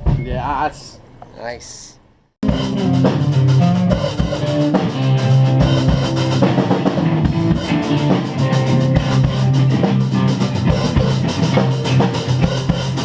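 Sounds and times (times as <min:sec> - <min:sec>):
rock band playing live: 0:02.4 - 0:13.0.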